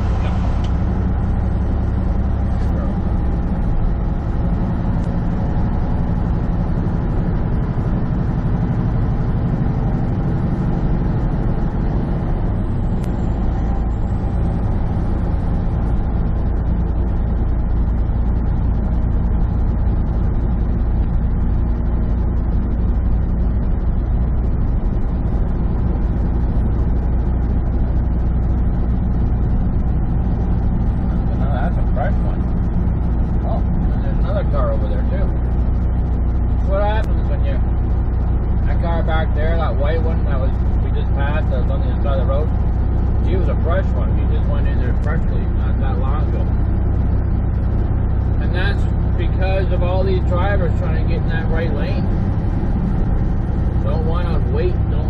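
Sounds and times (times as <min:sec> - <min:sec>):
road noise: 0:00.0 - 0:55.0
truck diesel engine running: 0:00.0 - 0:55.0.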